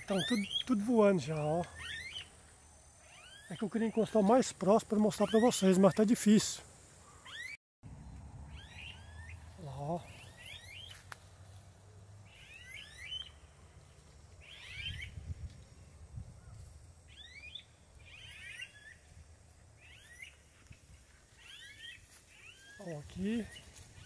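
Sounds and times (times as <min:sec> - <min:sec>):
cuckoos calling: 0:00.0 - 0:07.6, 0:08.5 - 0:11.2, 0:11.9 - 0:13.7, 0:14.4 - 0:15.2, 0:16.4 - 0:24.0.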